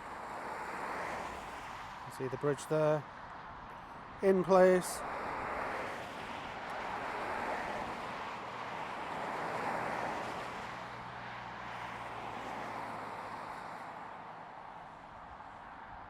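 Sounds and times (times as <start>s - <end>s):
vehicles passing by: 0.0s - 16.0s.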